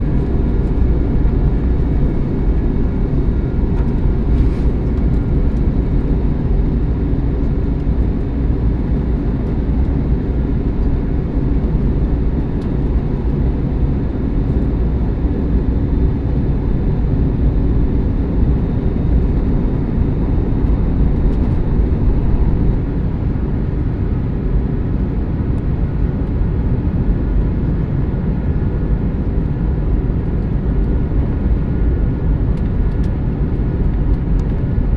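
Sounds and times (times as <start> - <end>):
airplane engines rumbling: 0.0 - 34.9.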